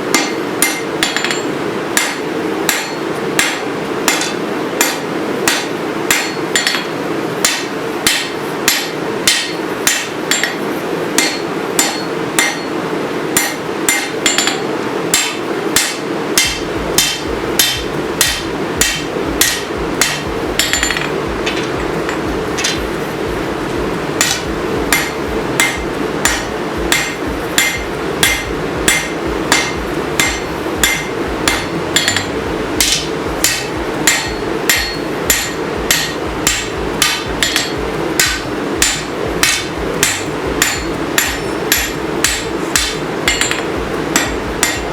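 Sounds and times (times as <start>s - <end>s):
hammer ringing on hot steel: 0.0s - 23.5s, 24.2s - 44.9s
steady hum: 0.0s - 44.9s.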